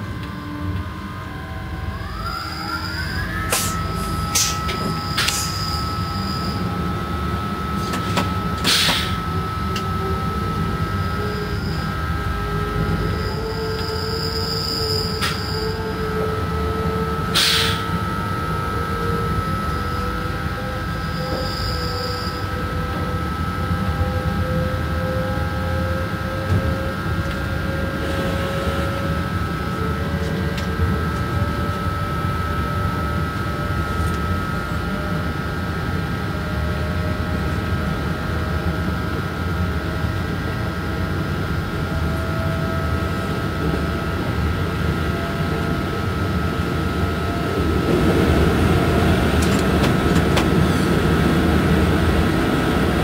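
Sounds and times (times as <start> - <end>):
locomotive whine rising in pitch: 0.0 - 53.0
train rumbling on rails: 0.0 - 53.0.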